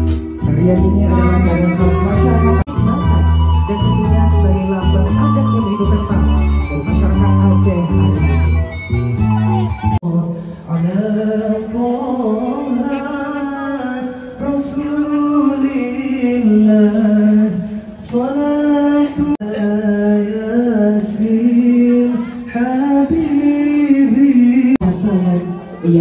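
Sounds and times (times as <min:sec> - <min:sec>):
man singing into a microphone: 0:00.0 - 0:08.9, 0:10.0 - 0:26.0.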